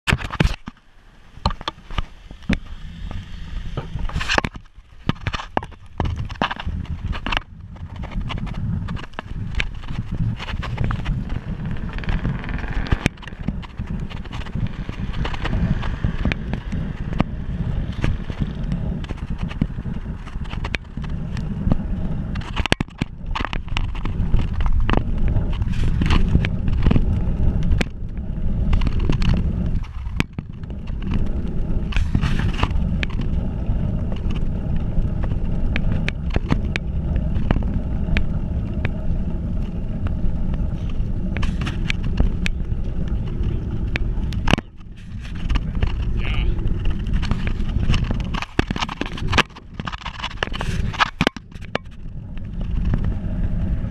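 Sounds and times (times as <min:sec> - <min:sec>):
tyres rolling on asphalt: 0:00.1 - 0:53.9
wind on microphone: 0:00.1 - 0:53.9
bicycle clicks and knocks: 0:03.7 - 0:53.7.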